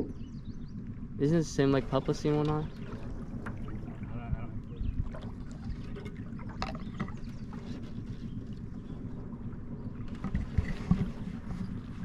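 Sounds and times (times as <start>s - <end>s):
water lapping against boat: 0.2s - 12.0s.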